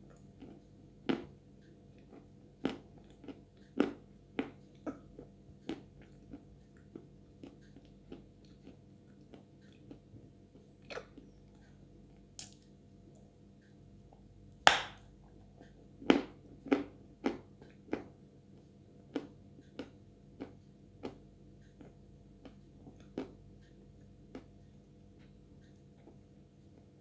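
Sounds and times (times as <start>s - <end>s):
mouth chewing sticky paste: 0.0s - 27.0s.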